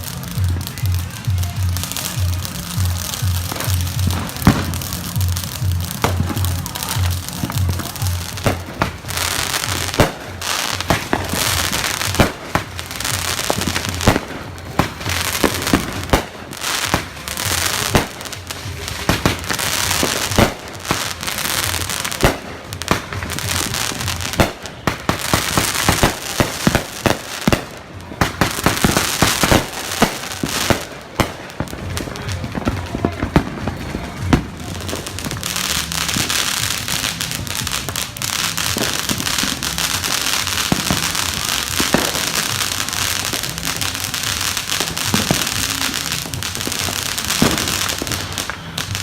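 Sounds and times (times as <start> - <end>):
firecrackers crackling: 0.0 - 49.0
fireworks bangs: 0.0 - 49.0.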